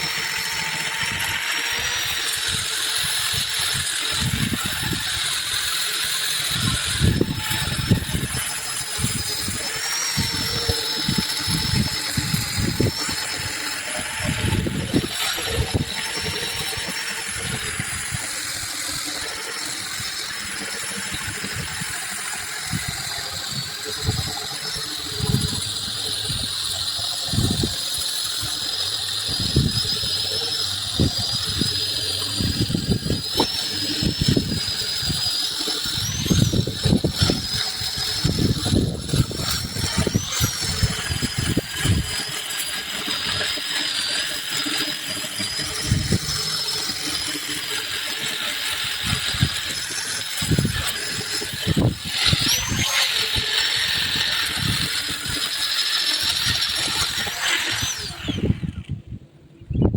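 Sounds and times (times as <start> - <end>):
power tool motor whine: 0.0 - 59.2.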